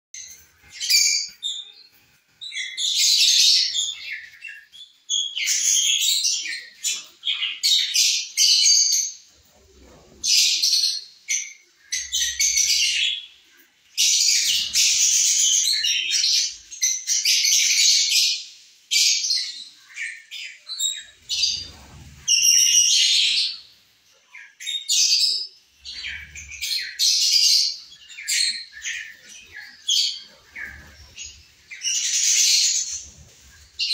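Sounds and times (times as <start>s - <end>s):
lovebirds chattering and screeching: 0.2s - 33.9s.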